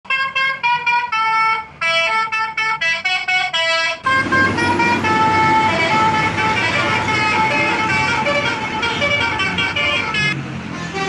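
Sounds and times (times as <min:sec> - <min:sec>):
traffic noise: 0:00.0 - 0:11.0
multi-tone horn playing a tune: 0:00.1 - 0:11.0.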